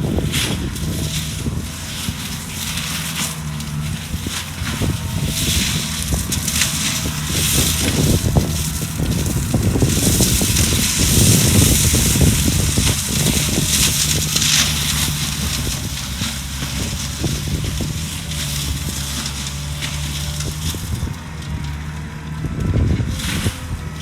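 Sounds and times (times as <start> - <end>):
mulching drum grinding brush: 0.0 - 24.0
skid steer engine running: 0.0 - 24.0.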